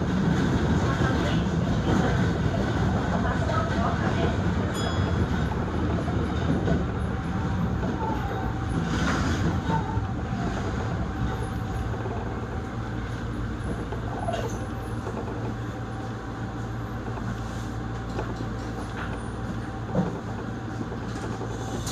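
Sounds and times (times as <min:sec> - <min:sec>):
subway train running hum: 0:00.0 - 0:21.9.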